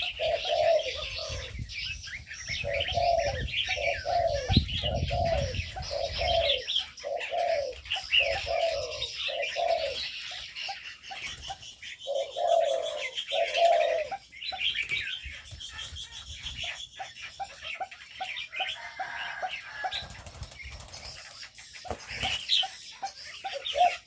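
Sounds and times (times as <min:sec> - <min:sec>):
doves cooing: 0:00.0 - 0:24.0
small birds chirping: 0:00.0 - 0:24.0.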